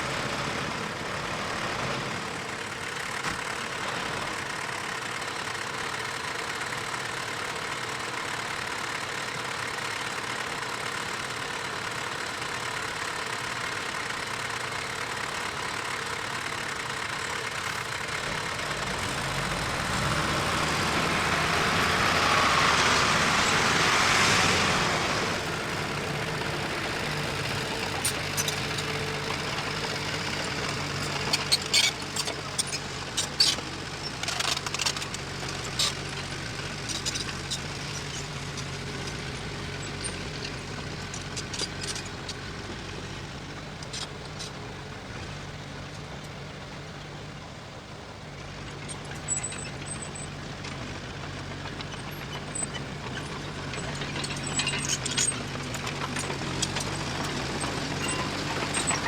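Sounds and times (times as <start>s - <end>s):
heavy machinery diesel engine running: 0.0s - 59.0s.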